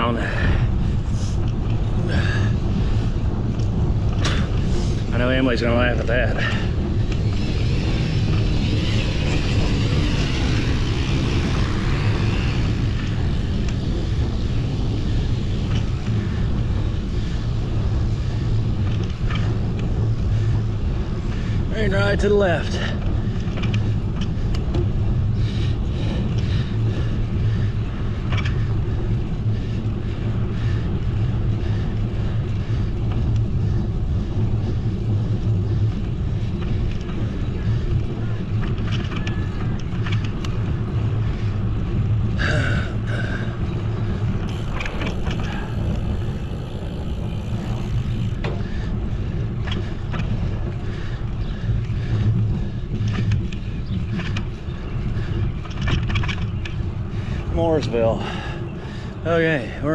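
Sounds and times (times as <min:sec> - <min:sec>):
wind rumbling over microphone: 0:00.0 - 0:59.9.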